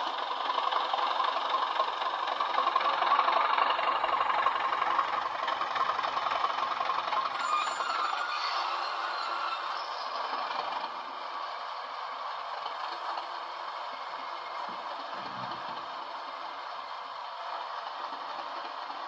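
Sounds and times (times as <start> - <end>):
diesel engine sound through small speaker: 0.0 - 19.0.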